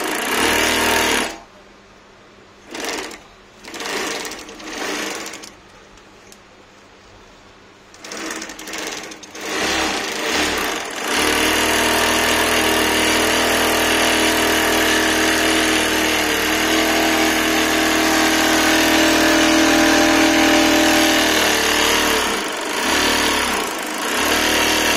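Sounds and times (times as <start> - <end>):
bag stitching machine whirring: 0.0 - 1.4, 2.6 - 5.6, 7.9 - 24.9.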